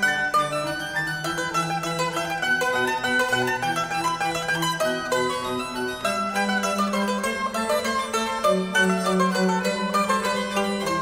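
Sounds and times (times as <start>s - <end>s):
plucked string notes: 0.0s - 11.0s.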